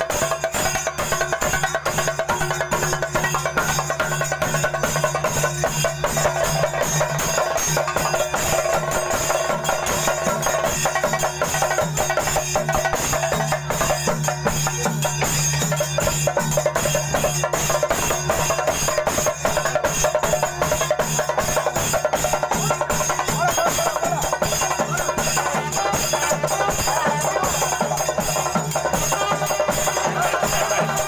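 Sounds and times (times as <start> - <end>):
drums playing fast rhythm: 0.0 - 31.0.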